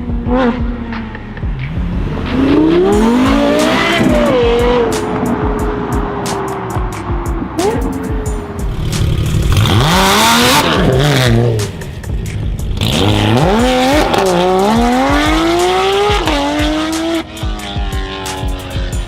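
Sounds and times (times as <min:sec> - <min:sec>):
sports car engine revving: 0:00.0 - 0:19.0.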